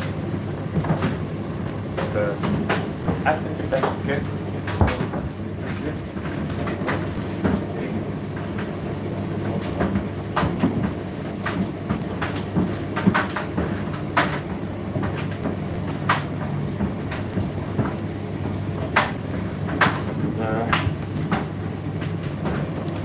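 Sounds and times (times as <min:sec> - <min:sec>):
tumble dryer humming: 0:00.0 - 0:23.0.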